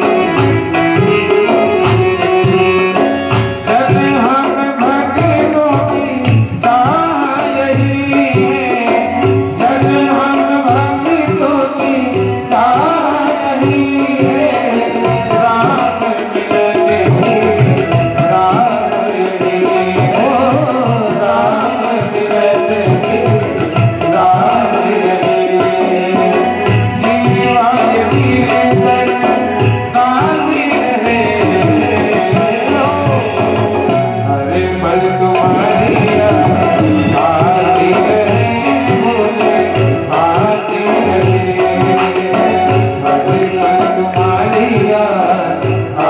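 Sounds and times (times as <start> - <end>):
person singing devotional song: 0.0 - 46.0
tabla rhythm: 0.0 - 46.0.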